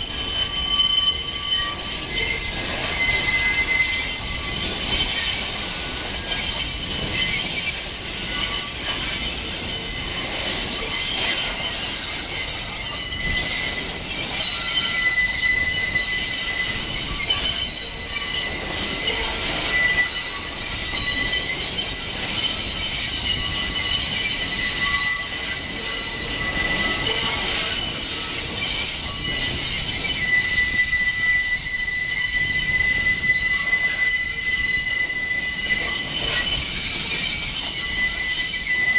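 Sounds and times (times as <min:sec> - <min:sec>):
moving train rumble: 0:00.0 - 0:38.9
train wheels squealing on rails: 0:00.0 - 0:38.9.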